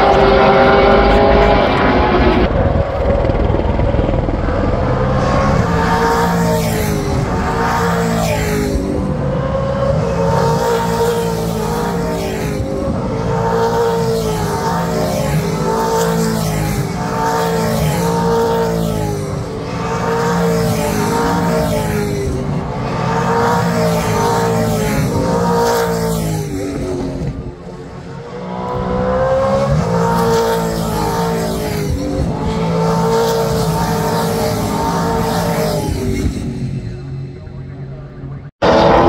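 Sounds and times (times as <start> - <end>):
race cars passing by: 0.0 - 39.0.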